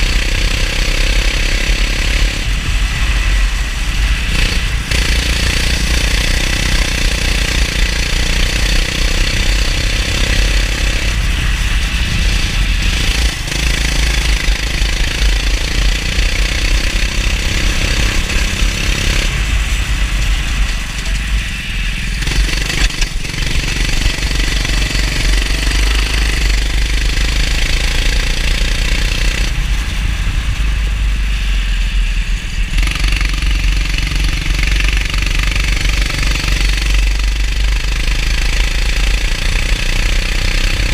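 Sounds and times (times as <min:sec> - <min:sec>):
kart engine running hard: 0:00.0 - 0:40.9.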